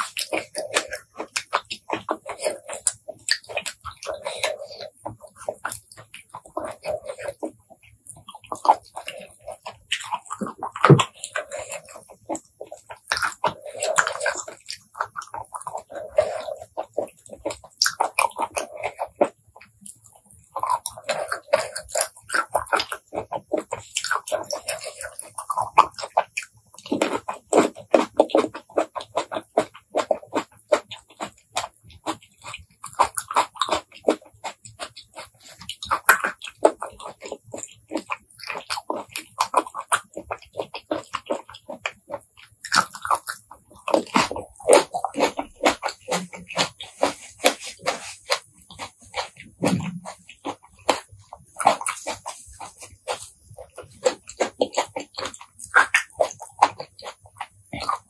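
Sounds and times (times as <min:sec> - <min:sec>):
wet chewing and lip smacking: 0:00.0 - 0:58.0.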